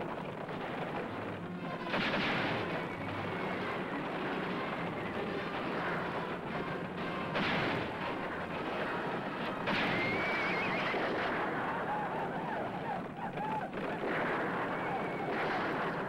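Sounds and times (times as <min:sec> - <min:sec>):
rifle fire: 0:01.7 - 0:12.2, 0:13.4 - 0:16.0.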